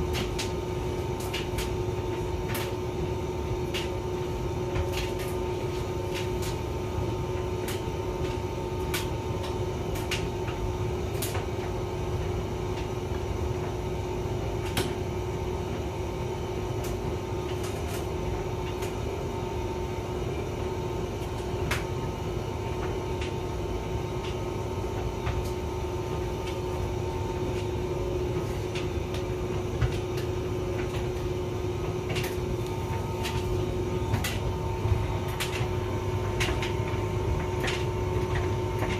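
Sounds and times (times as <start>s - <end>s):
tumble dryer running: 0.0s - 38.9s.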